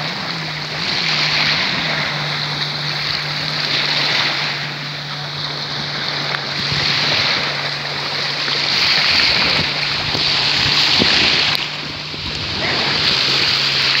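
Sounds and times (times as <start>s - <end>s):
waves breaking on sandy shore: 0.0s - 14.0s
wind on microphone: 0.0s - 14.0s.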